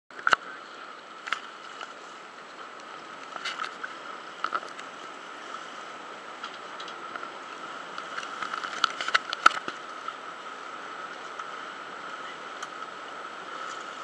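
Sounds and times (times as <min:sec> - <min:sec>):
boat engine hum: 0:00.1 - 0:14.0
water wash against boat: 0:00.1 - 0:14.0.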